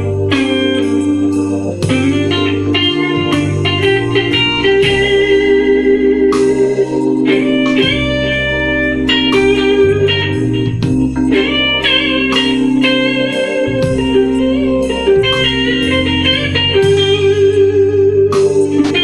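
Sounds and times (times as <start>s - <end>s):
electric guitar blues lead: 0.0s - 19.0s
slow backing track with bass: 0.0s - 19.0s.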